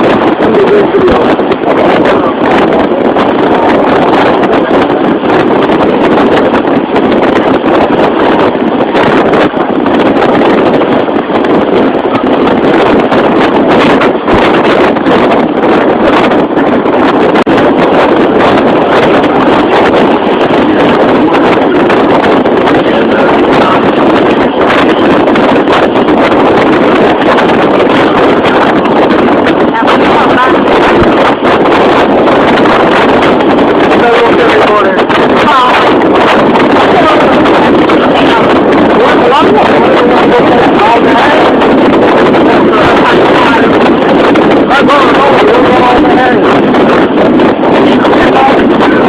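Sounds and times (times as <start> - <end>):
wind rushing on microphone: 0.0 - 49.0.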